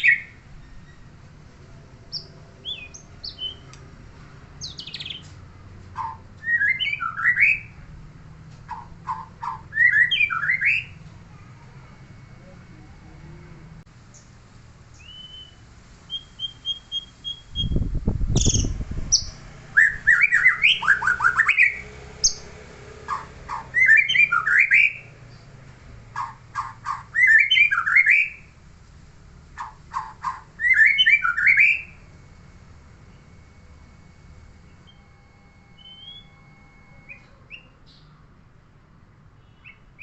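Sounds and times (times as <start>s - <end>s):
songbird singing: 0.0s - 28.6s, 29.4s - 38.5s, 39.4s - 40.0s.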